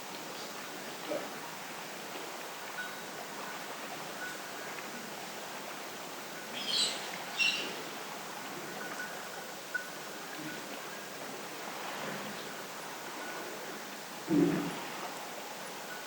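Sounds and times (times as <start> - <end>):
sea washing on shore: 0.0 - 16.0
wind: 0.0 - 16.0.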